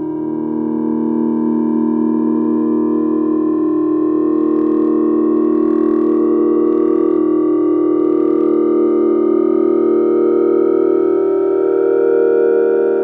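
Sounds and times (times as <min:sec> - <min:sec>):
synthesizer drone: 0:02.5 - 0:13.0.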